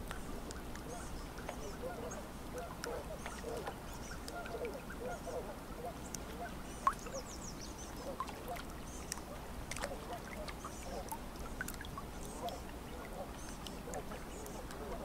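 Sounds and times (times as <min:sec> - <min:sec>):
faint steady background noise: 0:00.0 - 0:15.0
birds calling: 0:00.1 - 0:15.0.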